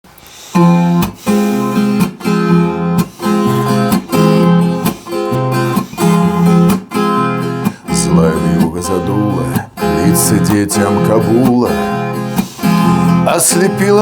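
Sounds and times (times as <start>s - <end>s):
acoustic guitar strumming chords: 0.3s - 14.0s.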